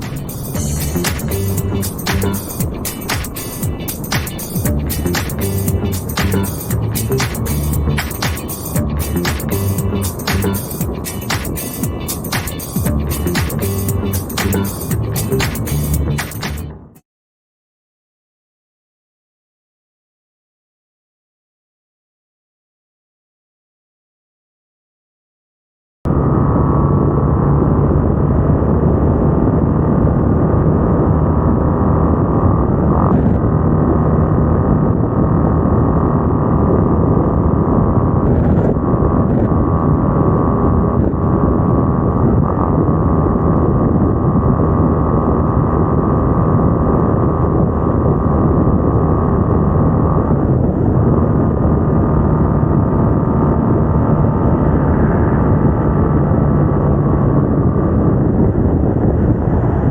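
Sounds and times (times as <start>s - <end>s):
vehicle engine drone: 0.0s - 17.0s, 26.1s - 59.9s
wind and road noise: 0.0s - 17.0s, 26.1s - 59.9s.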